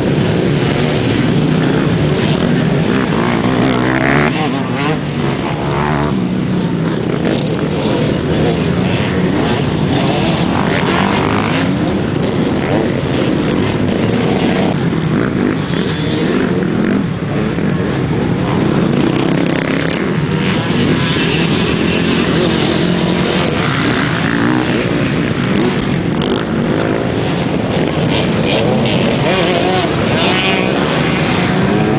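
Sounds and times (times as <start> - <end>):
off-road motorcycles running: 0.0 - 31.9.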